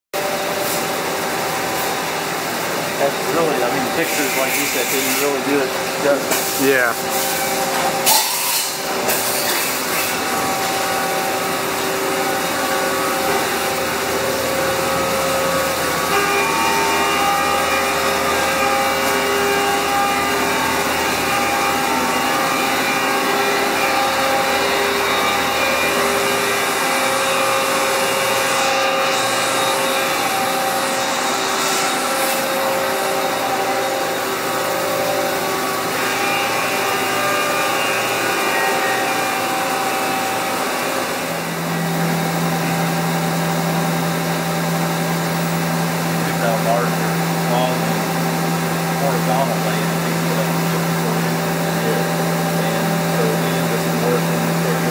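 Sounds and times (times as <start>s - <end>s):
machine hum and hiss: 0.2s - 54.9s
machine whining tones: 0.2s - 54.9s.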